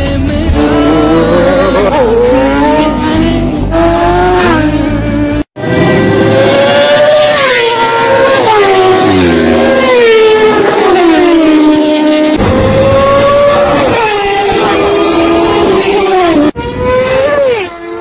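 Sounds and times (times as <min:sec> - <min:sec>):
motorbikes passing at high speed: 0:00.6 - 0:18.0.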